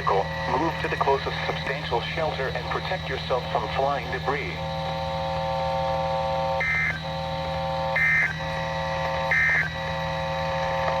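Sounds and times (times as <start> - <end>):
steady electronic buzz: 0.0 - 11.0.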